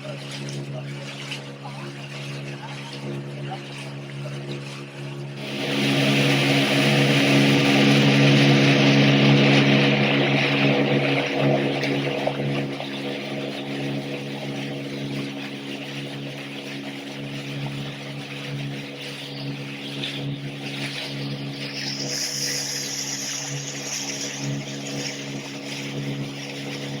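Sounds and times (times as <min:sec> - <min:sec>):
speedboat engine droning: 0:00.0 - 0:27.0
water and wind rushing: 0:00.0 - 0:27.0.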